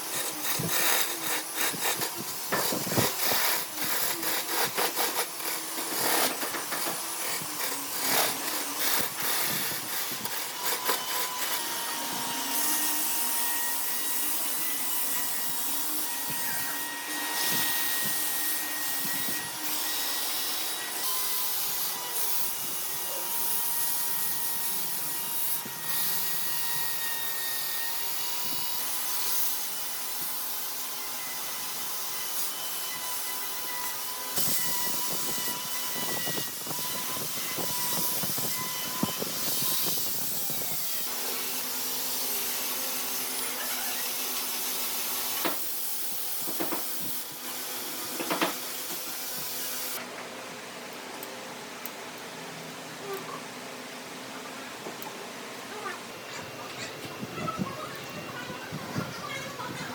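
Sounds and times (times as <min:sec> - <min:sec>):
power tool sanding wood: 0:00.0 - 0:50.0.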